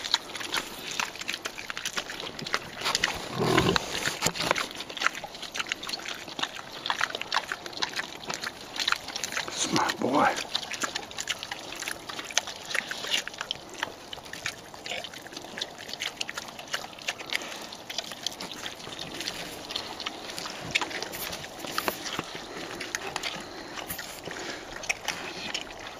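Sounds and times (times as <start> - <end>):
wild boar chewing and crunching: 0.0 - 25.9.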